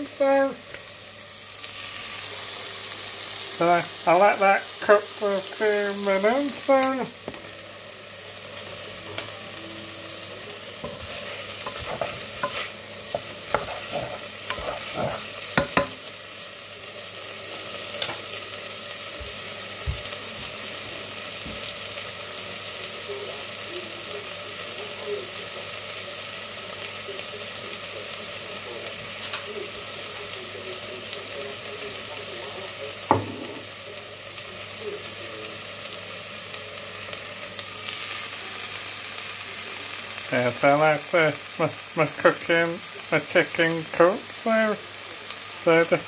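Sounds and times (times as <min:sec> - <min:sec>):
chicken sizzling in a pan: 0:00.0 - 0:46.0.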